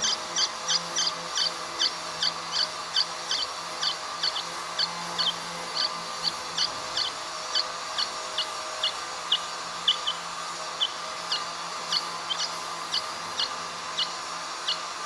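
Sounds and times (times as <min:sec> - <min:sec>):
faint steady hum: 0:00.0 - 0:15.0
nestlings chirping: 0:00.0 - 0:15.0.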